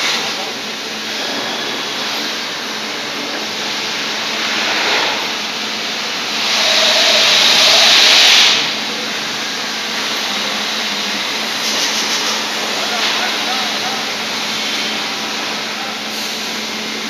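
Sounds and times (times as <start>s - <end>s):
vacuum cleaner rushing hiss: 0.0s - 17.0s.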